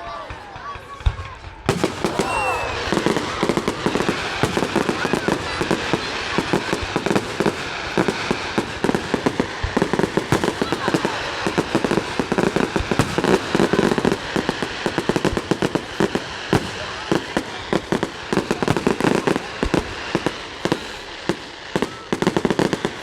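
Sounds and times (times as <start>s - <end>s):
fireworks exploding: 0.0s - 23.0s.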